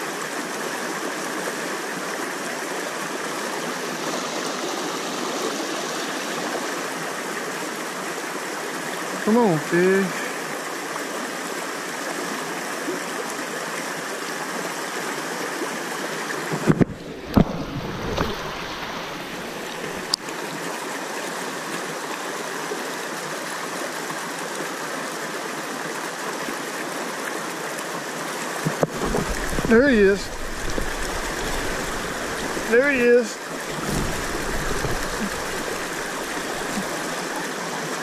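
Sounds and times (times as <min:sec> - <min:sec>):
river water over rapids: 0:00.0 - 0:38.0.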